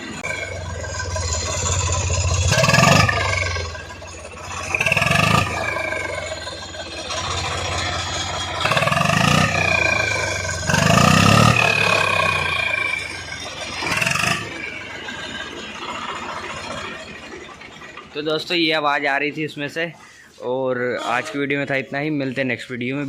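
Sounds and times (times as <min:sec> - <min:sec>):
tractor diesel engine revving: 0:00.0 - 0:20.5.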